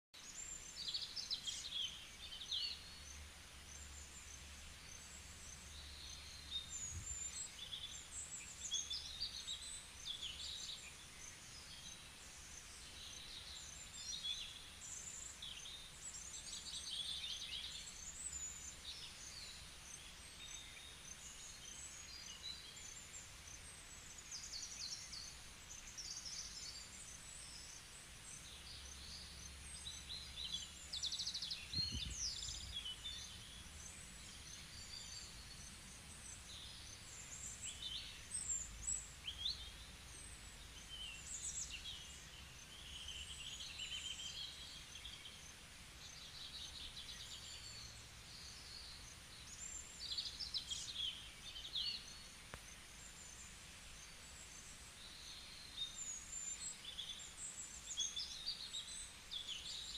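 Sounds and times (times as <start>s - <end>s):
songbirds chirping and twittering: 0.1s - 59.9s
faint background hiss: 0.2s - 59.9s.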